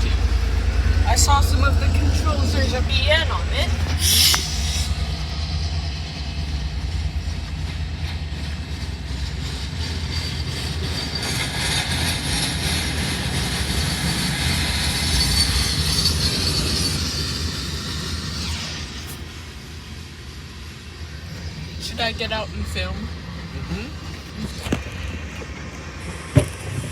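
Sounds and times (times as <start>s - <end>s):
freight train rumbling on rails: 0.0s - 18.6s, 19.5s - 26.9s
high hissing wheel noise: 0.0s - 26.9s.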